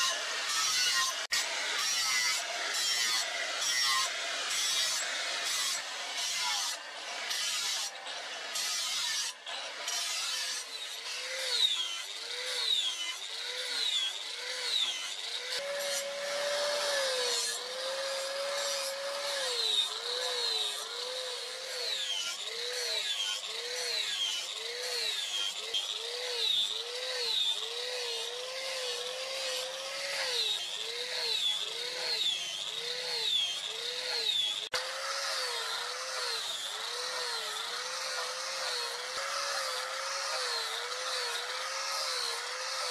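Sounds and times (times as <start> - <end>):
angle grinder grinding steel: 0.0 - 42.9.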